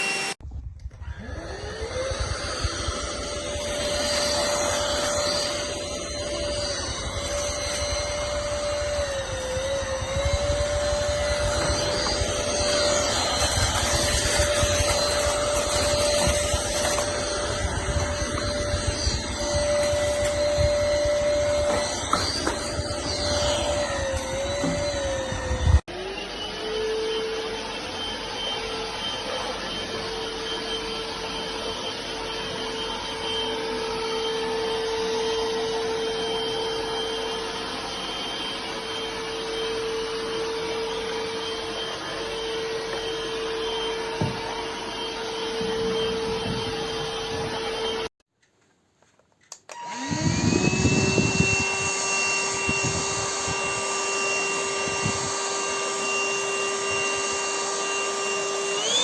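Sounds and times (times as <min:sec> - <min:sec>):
stick vacuum high whine: 0:00.0 - 0:48.1, 0:49.5 - 0:59.0.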